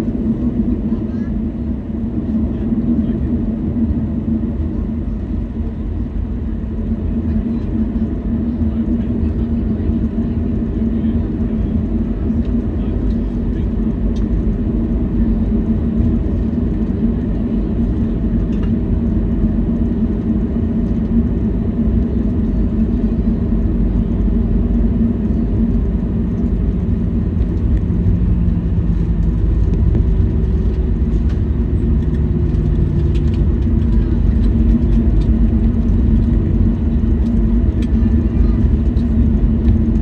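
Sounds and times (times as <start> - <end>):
jet engines idling: 0.0 - 40.0
low cabin hum: 0.0 - 40.0.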